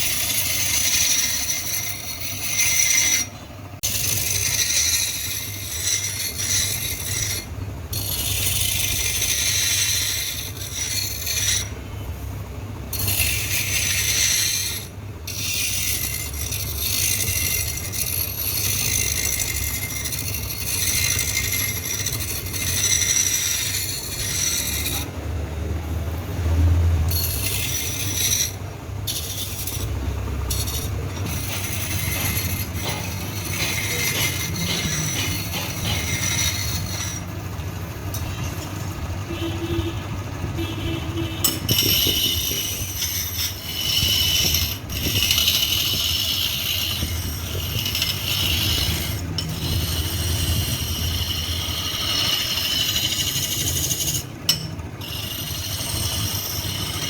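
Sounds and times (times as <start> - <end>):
machinery rattling and scraping: 0.0 - 57.0.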